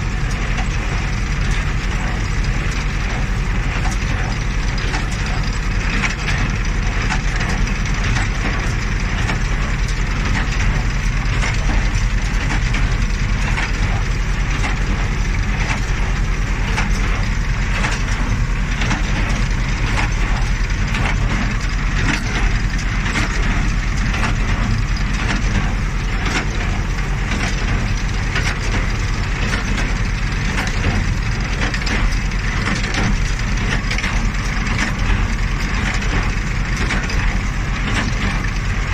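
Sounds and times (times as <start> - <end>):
hay baler clattering: 0.0 - 38.9
tractor engine drone: 0.0 - 38.9.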